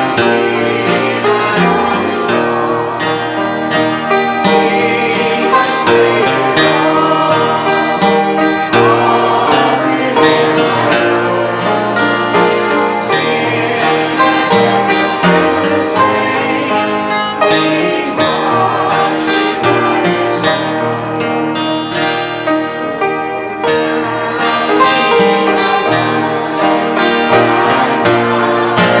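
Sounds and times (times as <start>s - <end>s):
congregation singing a hymn: 0.0s - 29.0s
instrumental accompaniment: 0.0s - 29.0s.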